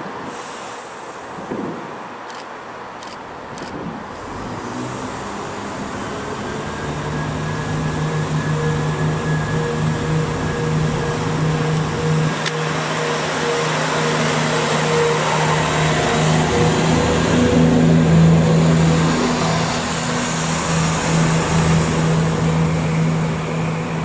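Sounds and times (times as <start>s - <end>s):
train approaching: 4.0s - 24.0s.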